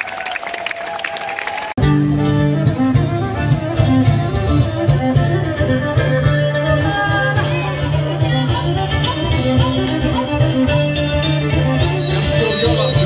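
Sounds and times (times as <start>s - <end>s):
guitar: 1.8s - 13.0s
violin melody: 1.8s - 13.0s.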